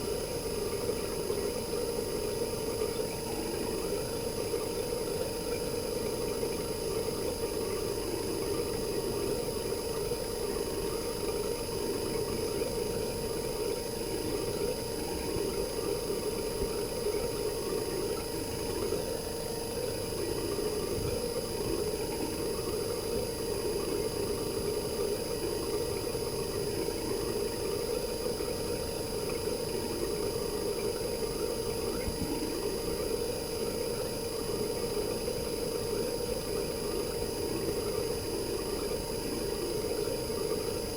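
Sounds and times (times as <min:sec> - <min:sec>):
air conditioner compressor humming: 0:00.0 - 0:40.9.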